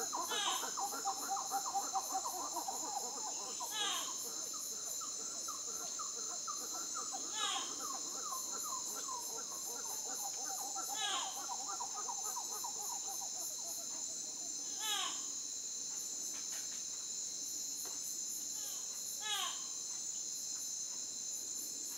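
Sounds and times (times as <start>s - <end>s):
high insect drone: 0.0s - 21.9s.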